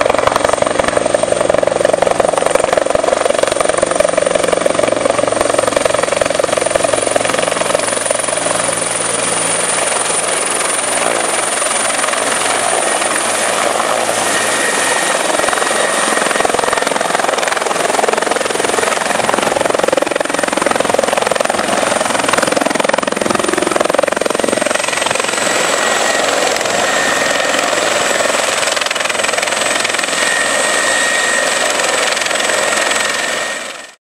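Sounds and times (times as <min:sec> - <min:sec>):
helicopter rotor and turbine: 0:00.0 - 0:34.0
high turbine whine: 0:00.0 - 0:34.0.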